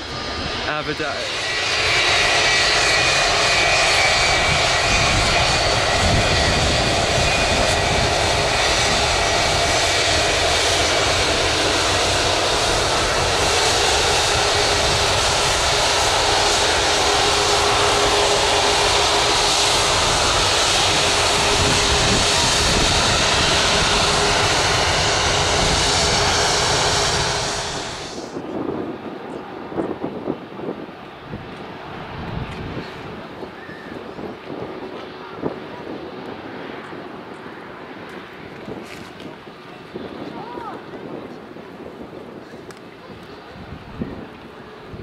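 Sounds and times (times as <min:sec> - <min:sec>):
jet engines running: 0:00.0 - 0:45.0.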